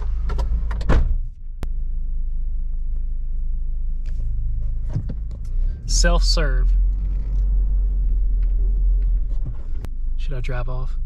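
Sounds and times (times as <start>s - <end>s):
vehicle engine idling: 1.3s - 11.0s.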